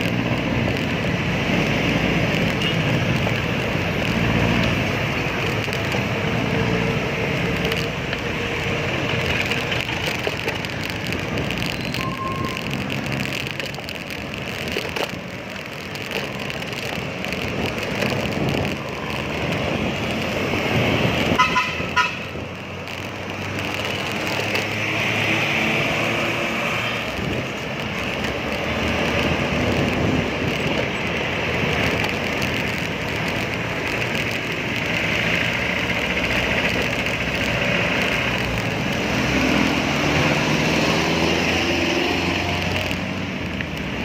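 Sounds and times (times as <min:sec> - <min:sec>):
road traffic noise: 0:00.0 - 0:44.0.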